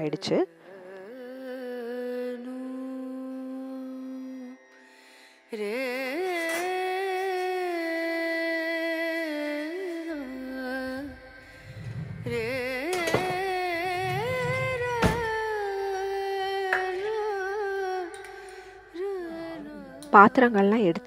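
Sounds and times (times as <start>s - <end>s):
person singing slow melody: 0.5s - 21.0s.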